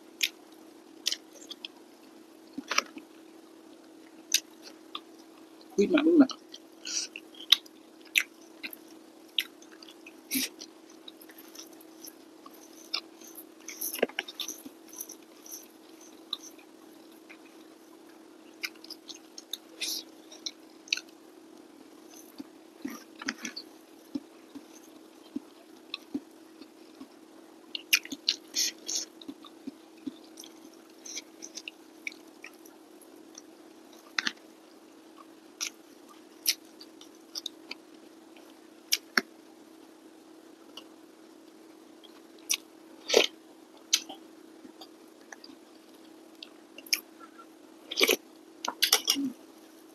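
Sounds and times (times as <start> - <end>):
steady hum: 0.0 - 49.9
person chewing food: 0.2 - 5.7, 6.3 - 39.3, 42.0 - 49.5.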